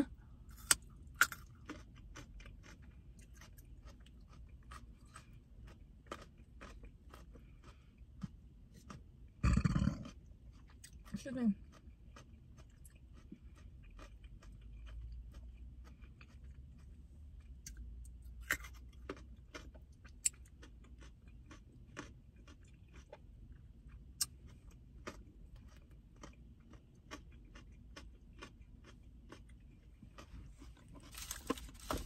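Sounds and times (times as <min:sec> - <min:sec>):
low steady rumble: 0:00.0 - 0:32.0
person chewing raw carrot: 0:00.2 - 0:32.0.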